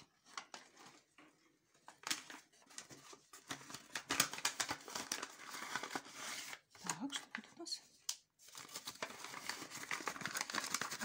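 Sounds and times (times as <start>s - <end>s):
paper bag rustling and crinkling: 0.0s - 7.4s, 8.4s - 11.0s.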